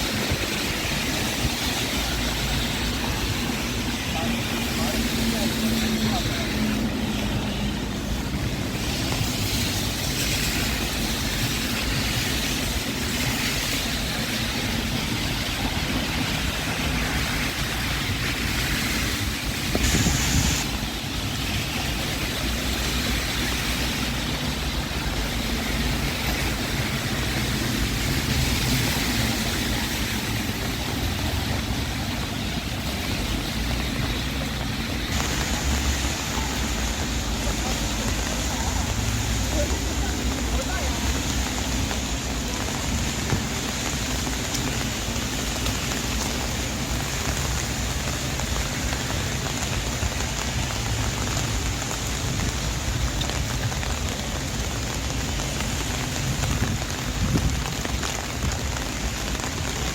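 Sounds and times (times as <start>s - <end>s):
rain hiss: 0.0s - 59.9s
wet traffic noise: 0.0s - 59.9s.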